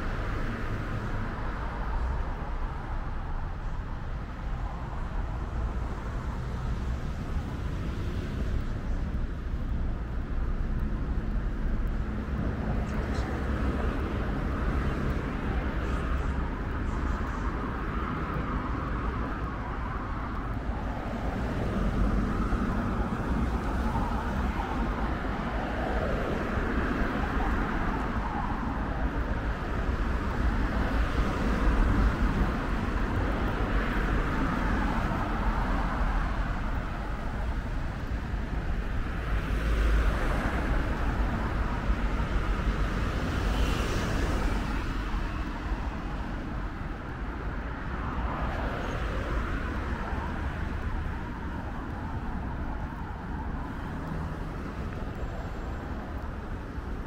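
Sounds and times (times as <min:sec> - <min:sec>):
rumble of cars passing: 0:00.0 - 0:57.0.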